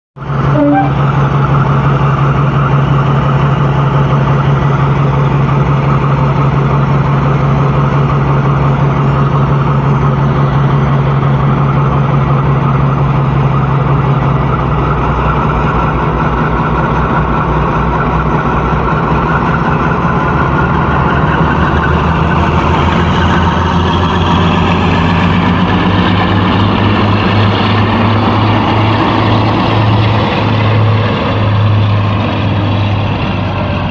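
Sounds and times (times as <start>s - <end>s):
diesel locomotive engines droning: 0.2s - 33.9s.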